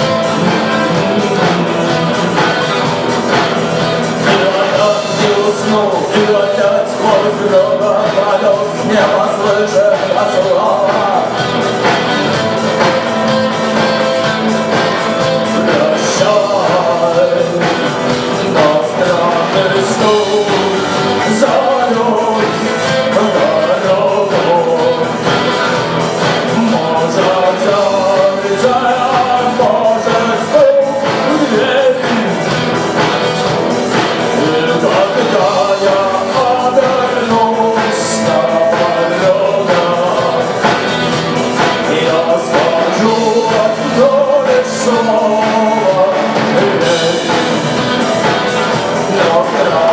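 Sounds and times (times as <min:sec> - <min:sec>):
melodic lead line: 0:00.0 - 0:49.9
rock band playing: 0:00.0 - 0:49.9.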